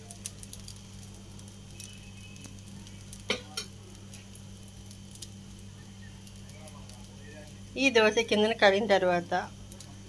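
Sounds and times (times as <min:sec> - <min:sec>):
faint crackles: 0:00.0 - 0:10.0
pancake sizzling on griddle: 0:00.0 - 0:10.0.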